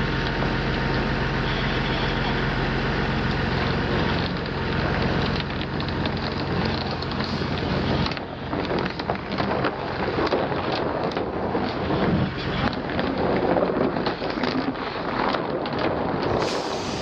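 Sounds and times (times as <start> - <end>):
heavy vehicle engine hum: 0.0 - 17.0.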